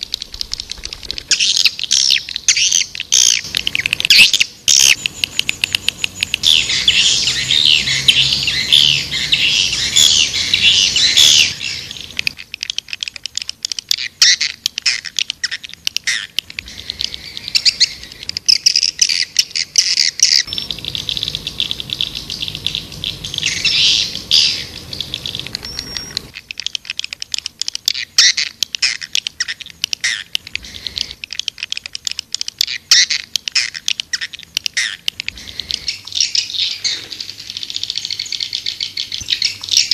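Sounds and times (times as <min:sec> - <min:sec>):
swiftlets twittering and chirping: 0:00.0 - 0:39.9.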